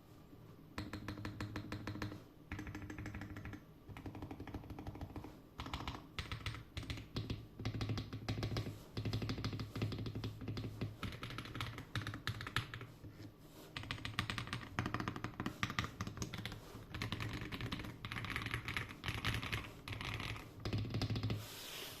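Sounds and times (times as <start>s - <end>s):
mechanical keyboard typing: 0.8s - 12.9s, 13.8s - 21.4s.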